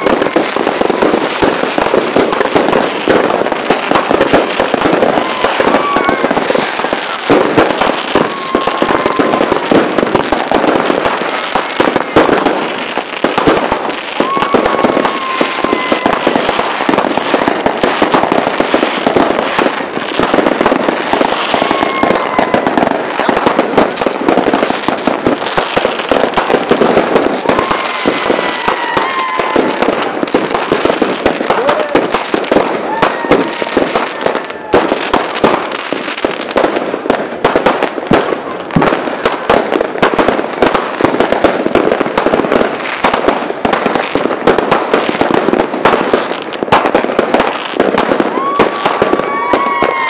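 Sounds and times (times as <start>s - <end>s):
fireworks crackling bangs: 0.0s - 50.0s
fireworks whistling: 0.0s - 50.0s.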